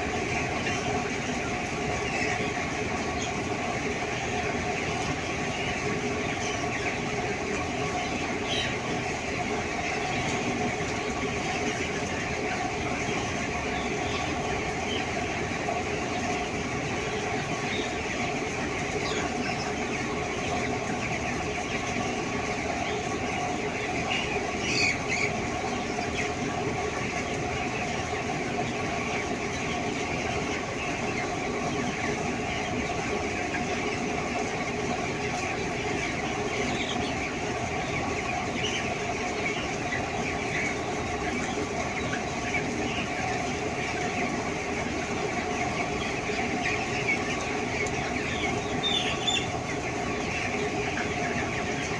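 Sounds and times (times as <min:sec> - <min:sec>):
chickens peeping and clucking: 0:00.0 - 0:51.9.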